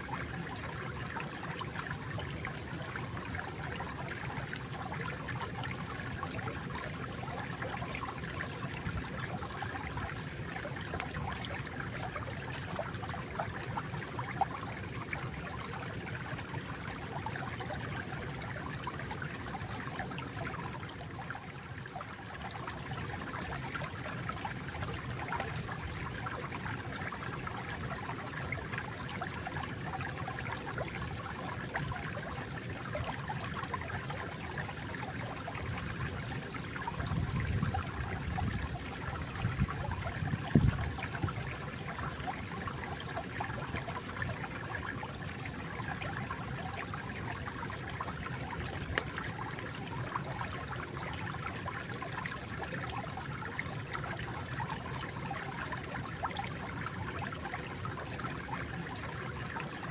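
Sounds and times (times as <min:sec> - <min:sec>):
water flowing and trickling: 0:00.0 - 0:59.9.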